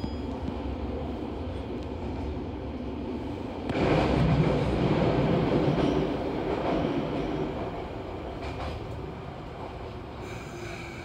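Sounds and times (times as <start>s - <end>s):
train rail rumble: 0.0s - 11.0s.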